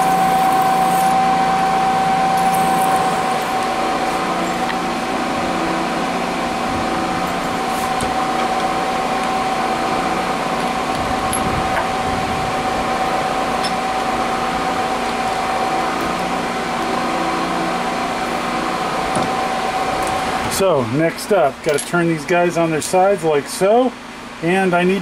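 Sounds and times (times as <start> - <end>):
milling machine whining: 0.0 - 21.8.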